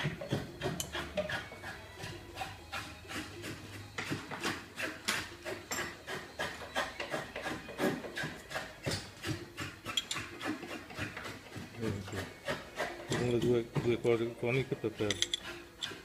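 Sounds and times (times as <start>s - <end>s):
hand tool rasping metal: 0.0s - 16.0s.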